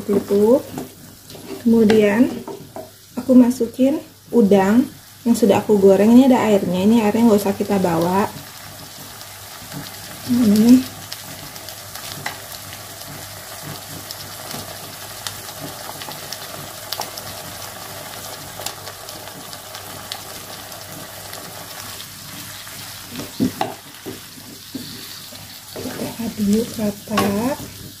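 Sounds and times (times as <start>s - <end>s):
food sizzling in a wok: 0.0s - 28.0s.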